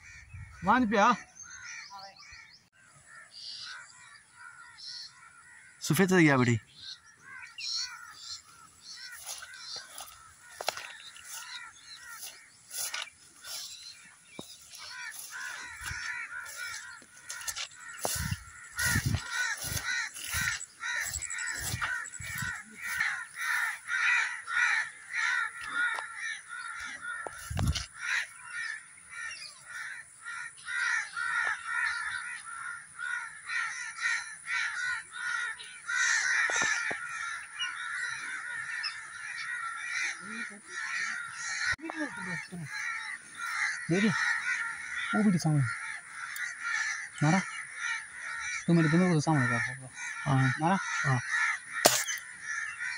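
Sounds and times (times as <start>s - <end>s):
chorus of bird calls: 0.0s - 52.9s.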